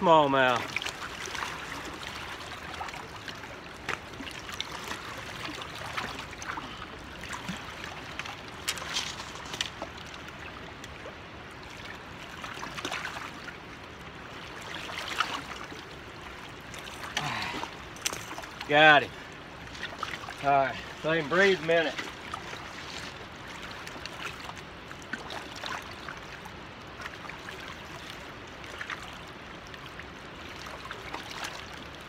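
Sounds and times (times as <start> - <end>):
small splashes and knocks: 0.0 - 13.6, 14.4 - 29.8
river water lapping on rocks: 0.0 - 32.0.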